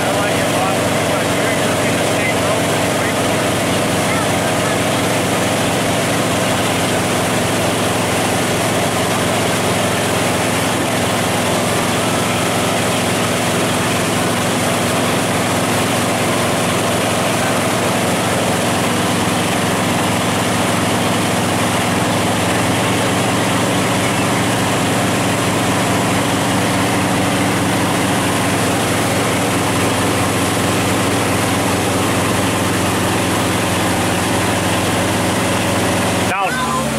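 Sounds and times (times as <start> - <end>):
boat engine running: 0.0 - 36.9
water rushing: 0.0 - 36.9.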